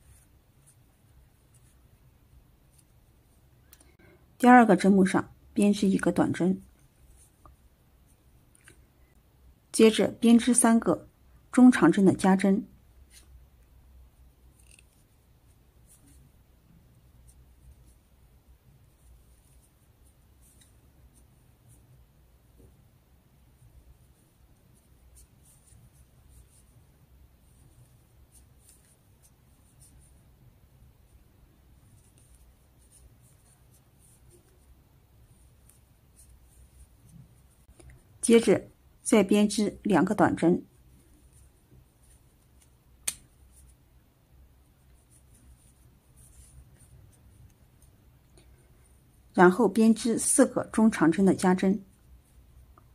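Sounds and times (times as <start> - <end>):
crochet hook scratching yarn: 0.0 - 2.0, 2.6 - 3.4, 5.8 - 8.8, 13.0 - 13.4, 14.1 - 22.8, 23.4 - 38.6, 39.2 - 43.8, 44.7 - 52.9.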